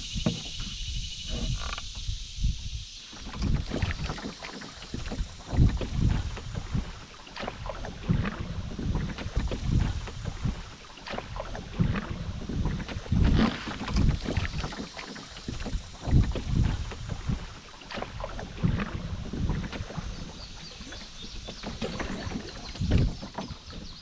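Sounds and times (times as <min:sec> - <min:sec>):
paddle splashing in water: 0:03.0 - 0:24.0.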